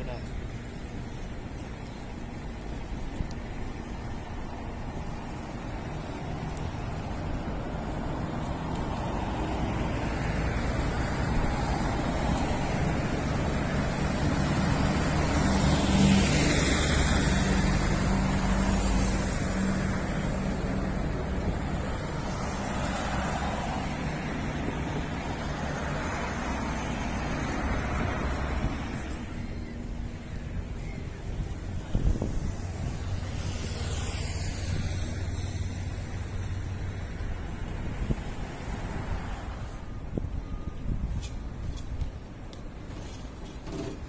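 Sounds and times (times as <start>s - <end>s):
vehicle engine hum: 0.0s - 44.0s.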